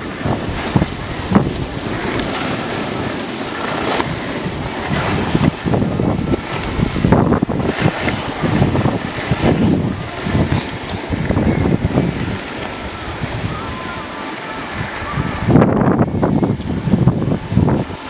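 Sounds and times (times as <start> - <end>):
skis scraping snow: 0.0 - 18.0
wind rushing over microphone: 0.0 - 18.0.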